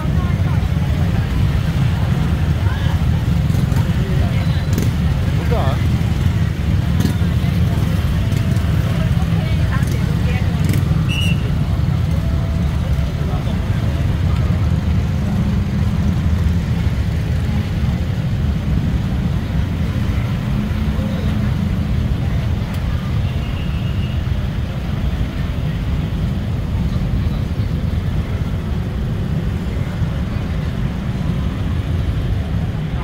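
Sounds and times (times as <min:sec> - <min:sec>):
crowd voices: 0:00.0 - 0:33.0
idling traffic rumble: 0:00.0 - 0:33.0.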